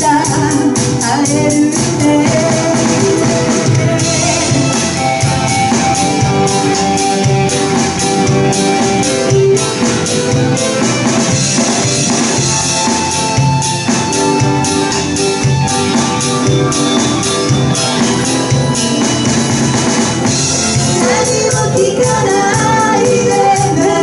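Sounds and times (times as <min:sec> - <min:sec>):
bass guitar: 0:00.0 - 0:24.0
drum kit steady beat: 0:00.0 - 0:24.0
held keyboard notes: 0:00.0 - 0:24.0
pop-rock band playing: 0:00.0 - 0:24.0
guitar notes: 0:02.2 - 0:24.0.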